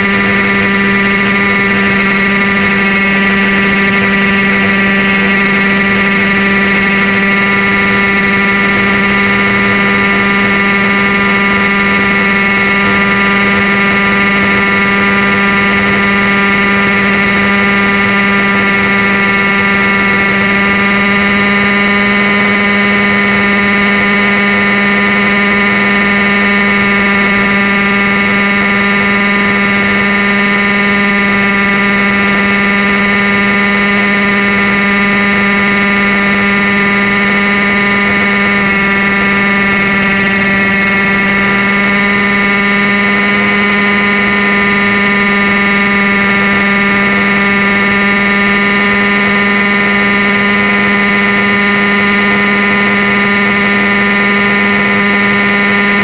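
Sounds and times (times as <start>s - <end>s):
rc helicopter engine whine: 0.0s - 56.0s.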